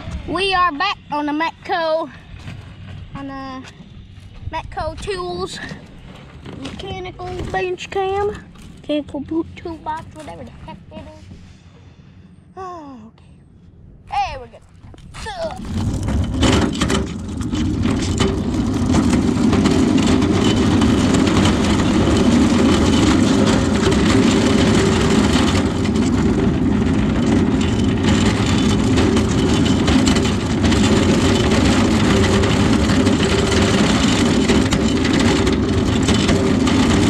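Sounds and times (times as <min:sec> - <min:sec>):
vehicle interior rumble: 0:00.0 - 0:37.0.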